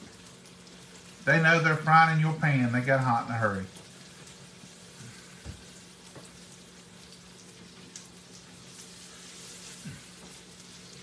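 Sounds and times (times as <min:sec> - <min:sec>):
chicken frying in oil sizzling: 0:00.0 - 0:11.0.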